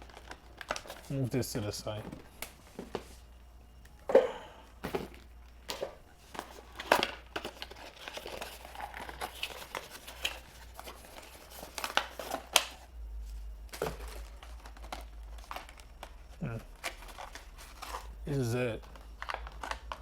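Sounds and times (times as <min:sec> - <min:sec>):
plastic and paper crinkling: 0:00.0 - 0:03.2, 0:04.8 - 0:20.0.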